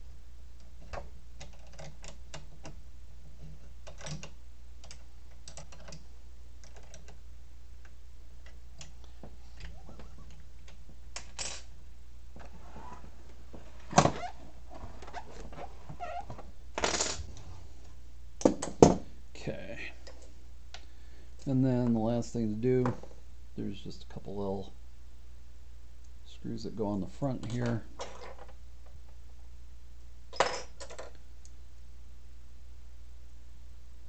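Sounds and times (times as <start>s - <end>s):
steady low hum: 0.0s - 30.3s.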